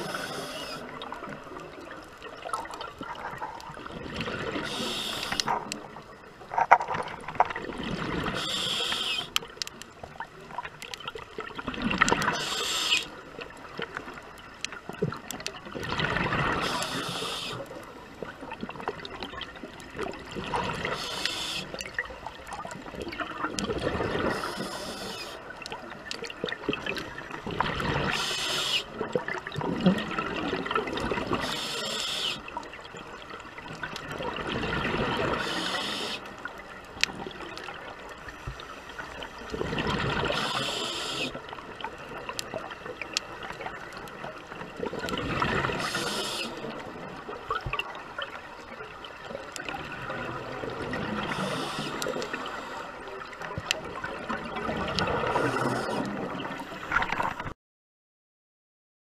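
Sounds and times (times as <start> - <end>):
watery crackle: 0.0 - 57.6.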